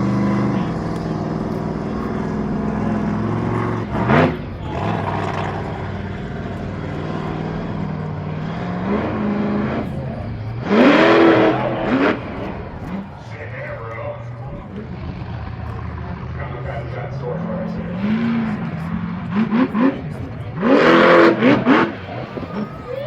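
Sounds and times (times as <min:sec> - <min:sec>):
engine idling and revving: 0:00.0 - 0:23.0.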